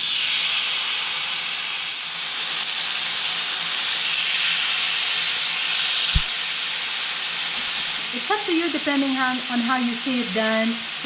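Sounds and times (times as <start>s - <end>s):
chicken sizzling on grill pan: 0.0s - 11.0s.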